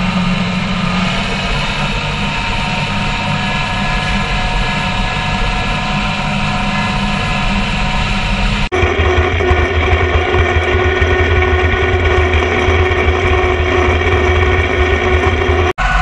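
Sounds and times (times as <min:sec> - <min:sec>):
mower cutter discs spinning: 0:00.0 - 0:16.0
tractor diesel engine: 0:00.0 - 0:16.0.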